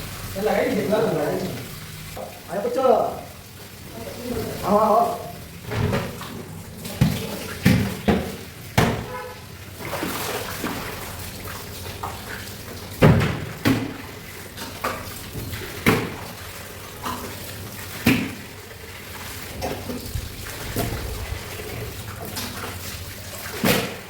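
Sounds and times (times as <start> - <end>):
water running: 0.0 - 24.0.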